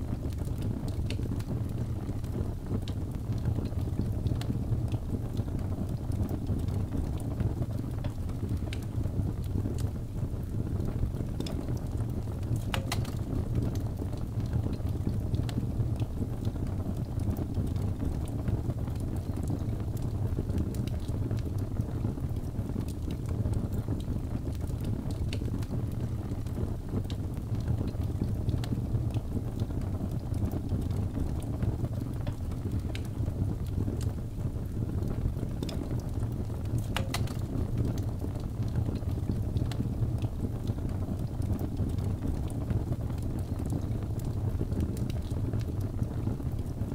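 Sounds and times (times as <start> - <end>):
fire crackles and pops: 0.0 - 46.9
wood fire rumbling: 0.0 - 46.9.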